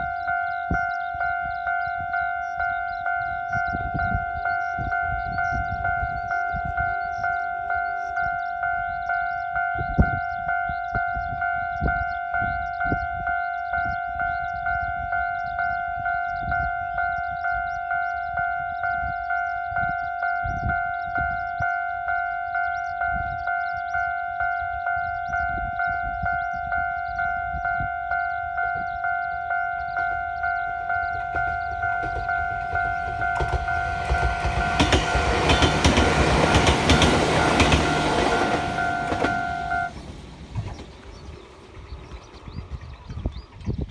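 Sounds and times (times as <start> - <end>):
level-crossing warning bell: 0.0 - 43.6.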